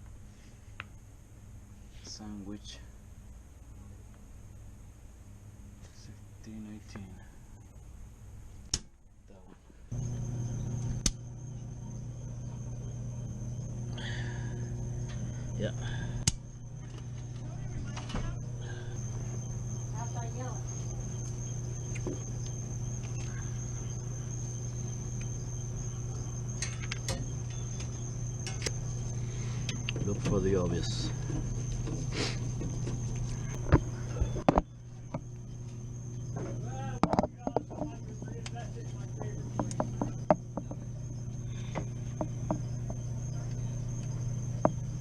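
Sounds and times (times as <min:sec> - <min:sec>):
faint high whine: 0:00.0 - 0:45.0
low machinery hum: 0:00.0 - 0:45.0.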